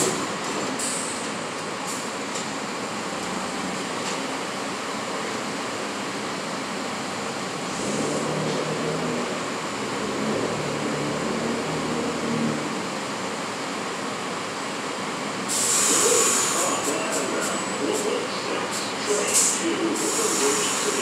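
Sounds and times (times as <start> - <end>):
subway train equipment humming: 0.0 - 21.0.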